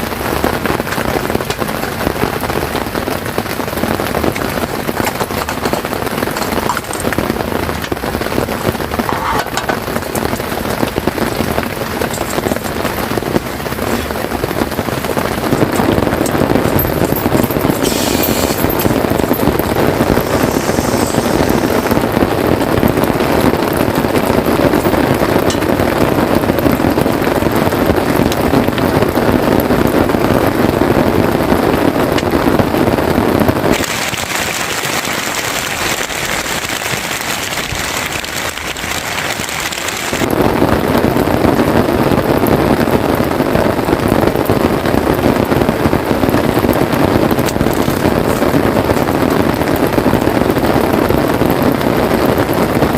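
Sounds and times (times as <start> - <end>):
heavy rain on tent fabric: 0.0 - 52.9.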